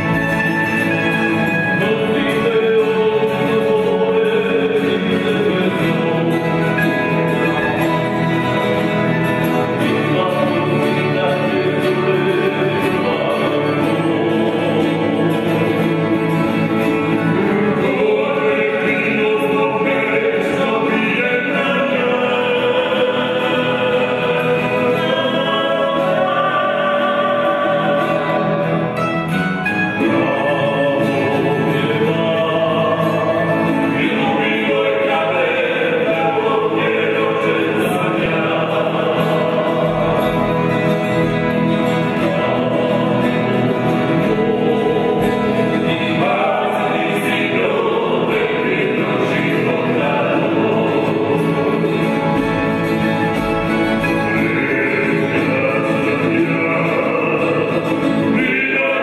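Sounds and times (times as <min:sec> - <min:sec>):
accordion: 0:00.0 - 0:59.0
acoustic guitar: 0:00.0 - 0:59.0
mandolins: 0:00.0 - 0:59.0
voices singing together: 0:00.0 - 0:59.0.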